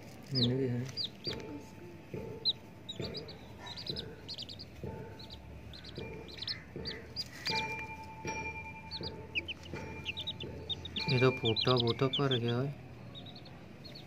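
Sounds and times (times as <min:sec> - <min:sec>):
baby chicks peeping: 0:00.0 - 0:14.0.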